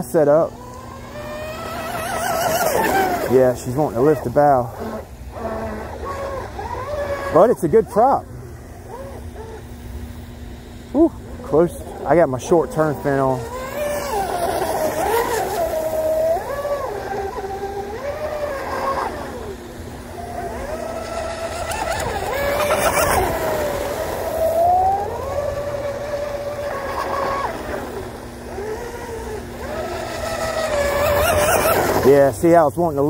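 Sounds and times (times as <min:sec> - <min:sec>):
electric motor whine of rc boat: 0:00.0 - 0:33.0.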